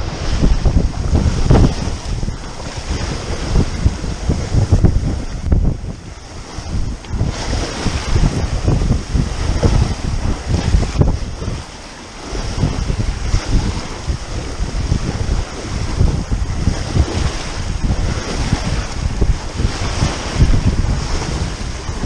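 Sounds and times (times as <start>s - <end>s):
water splashing along hull: 0.0s - 22.0s
wind buffeting microphone: 0.0s - 22.0s.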